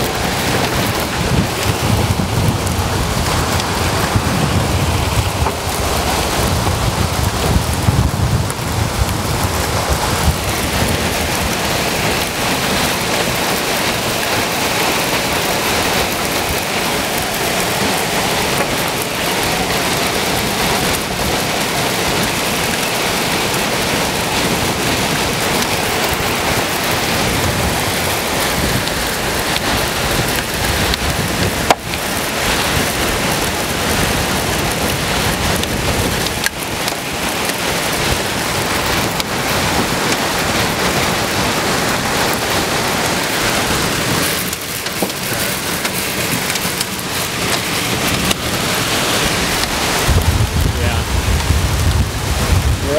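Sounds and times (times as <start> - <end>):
heavy rain beating on vehicle: 0.0 - 52.9
high wind: 0.0 - 52.9.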